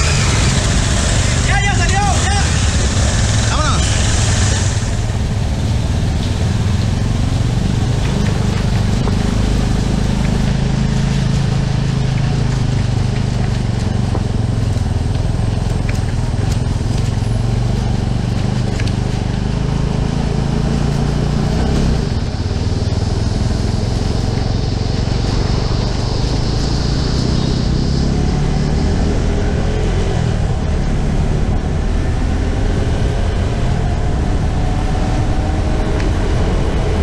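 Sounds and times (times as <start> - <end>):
motorcycle engine running: 0.0 - 37.0
road noise rushing: 0.0 - 37.0.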